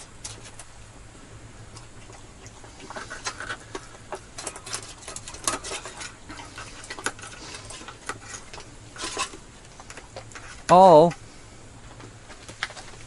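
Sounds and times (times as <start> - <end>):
puppy eating from metal bowl: 0.0 - 11.2.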